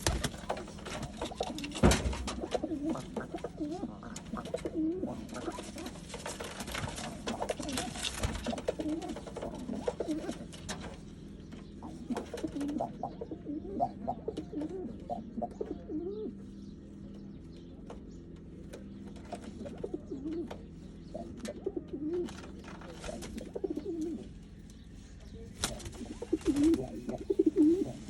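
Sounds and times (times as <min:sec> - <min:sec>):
pigeons scuffling and flapping: 0:00.0 - 0:15.8, 0:17.2 - 0:28.0
pigeons cooing: 0:00.0 - 0:28.0.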